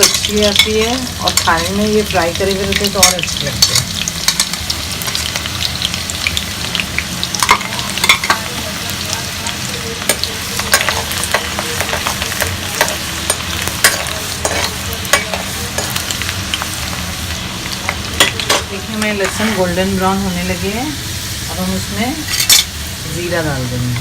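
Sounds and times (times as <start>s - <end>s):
garlic sizzling in hot oil: 0.0s - 24.0s.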